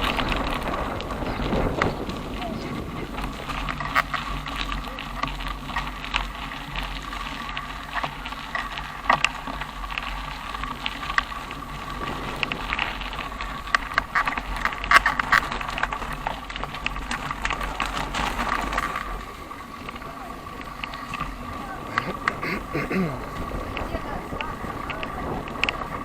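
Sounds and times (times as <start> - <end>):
bicycle rattles and clicks: 0.0 - 26.0
steady low rumble: 0.0 - 26.0.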